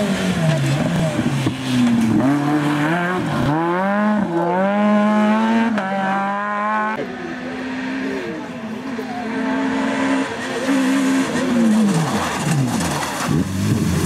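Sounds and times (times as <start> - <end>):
car engine accelerating through upshifts: 0.0 - 14.0.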